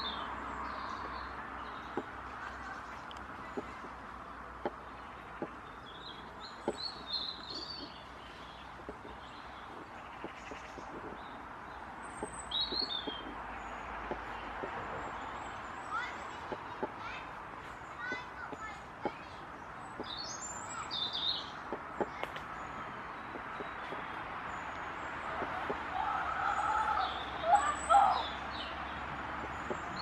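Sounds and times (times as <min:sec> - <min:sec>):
road traffic hiss: 0:00.0 - 0:30.0
small birds chirping: 0:00.0 - 0:30.0.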